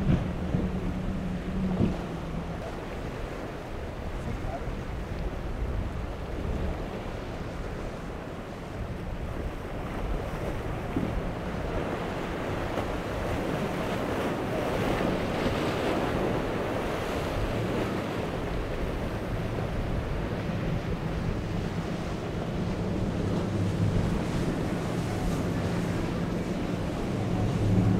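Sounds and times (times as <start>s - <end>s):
outboard engines droning: 0.0s - 27.9s
wind buffeting microphone: 0.0s - 27.9s.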